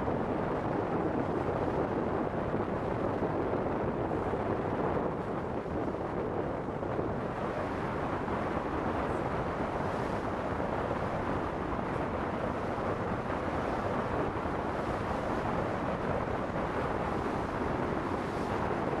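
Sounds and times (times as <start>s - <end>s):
water washing against boat: 0.0s - 19.0s
wind buffeting microphone: 0.0s - 19.0s.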